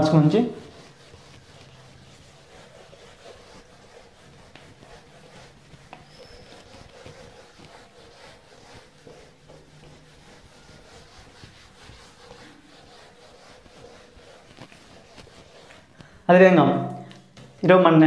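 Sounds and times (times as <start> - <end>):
eraser rubbing whiteboard: 0.0 - 16.3.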